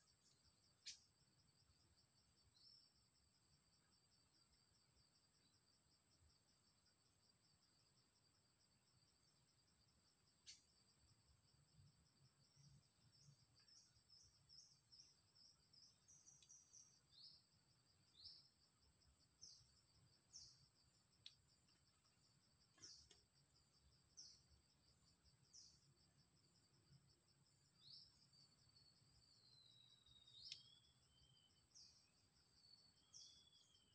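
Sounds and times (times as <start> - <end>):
high-pitched insect trill: 0.0 - 33.9.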